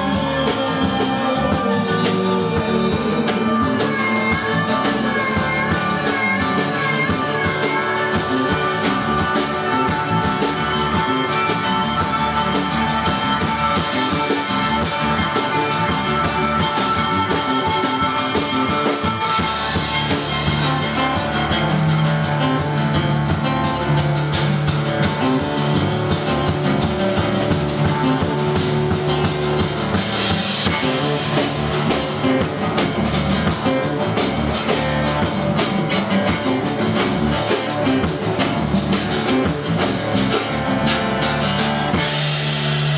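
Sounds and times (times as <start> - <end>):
drum kit: 0.0 - 42.9
electric guitar: 0.0 - 42.9
sustained bass line: 0.0 - 42.9.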